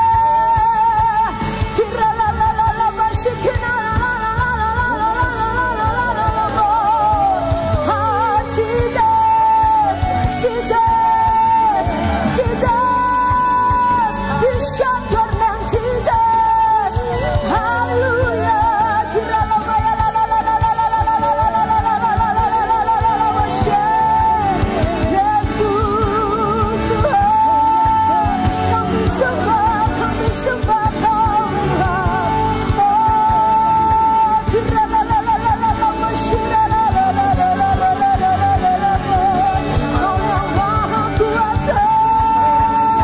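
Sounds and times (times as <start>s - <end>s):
band playing worship music: 0.0s - 43.0s
woman singing with vibrato: 0.0s - 43.0s.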